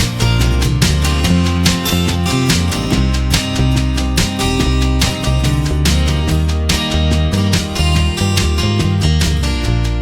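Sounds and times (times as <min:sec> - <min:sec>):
steady bass line: 0:00.0 - 0:10.0
strummed acoustic guitar: 0:00.0 - 0:10.0.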